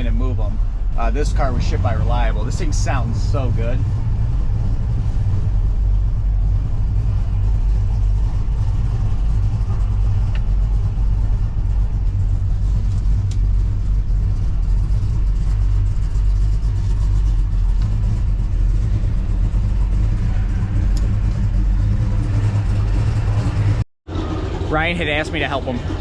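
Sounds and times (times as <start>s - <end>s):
car engine deep rumble: 0.0s - 26.0s.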